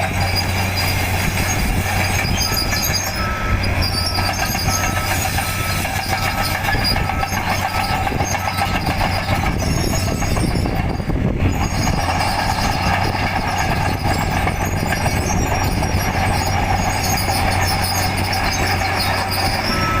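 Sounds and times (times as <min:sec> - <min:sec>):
diesel engine hum: 0:00.0 - 0:20.0
steel tracks squealing: 0:00.0 - 0:20.0.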